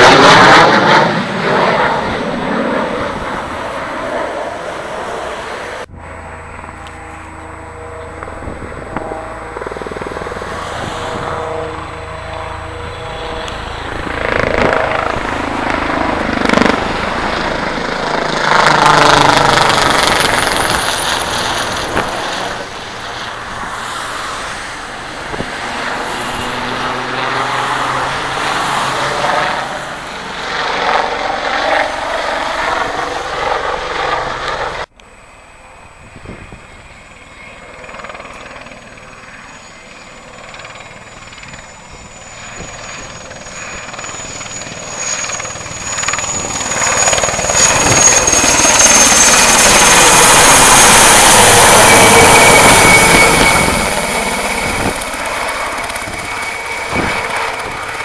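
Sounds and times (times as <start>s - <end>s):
helicopter flying: 0.0s - 58.0s
jet engine roar: 0.0s - 58.0s.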